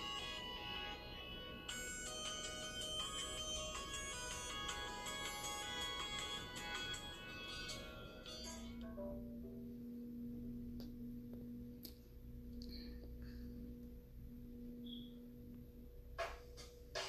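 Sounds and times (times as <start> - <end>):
held tone in background music: 0.0 - 17.0.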